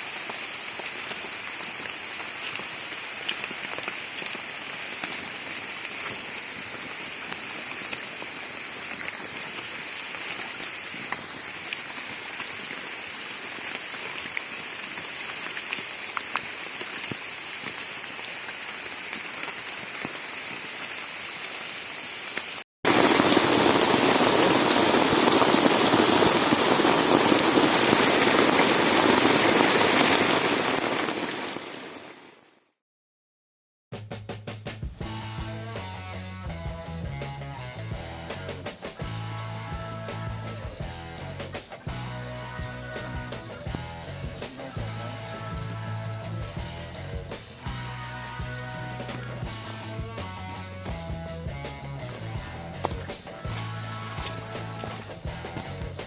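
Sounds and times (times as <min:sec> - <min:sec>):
heavy rain: 0:00.0 - 0:32.4, 0:35.1 - 0:56.0
rain falling: 0:00.0 - 0:32.4, 0:35.0 - 0:56.0.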